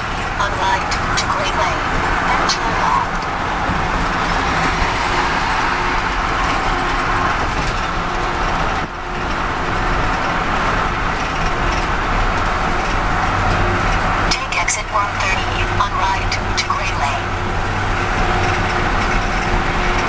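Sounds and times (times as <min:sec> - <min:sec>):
road and engine noise in car cabin: 0:00.0 - 0:20.0.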